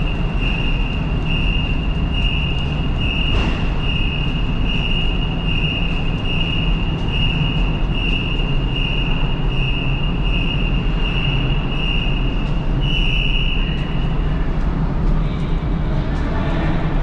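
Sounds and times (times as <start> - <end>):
low rumble of machinery: 0.0 - 17.0
high-pitched warning beeper: 0.2 - 14.1.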